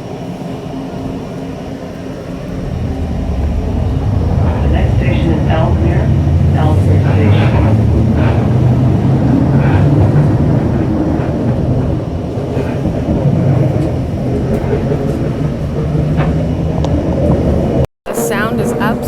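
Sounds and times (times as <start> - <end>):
metro train rumbling on track: 0.0 - 19.0.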